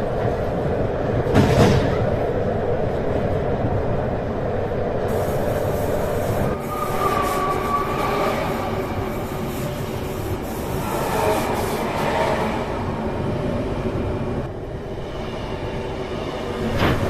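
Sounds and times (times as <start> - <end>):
train noise: 0.0 - 17.0
train passing: 0.0 - 17.0.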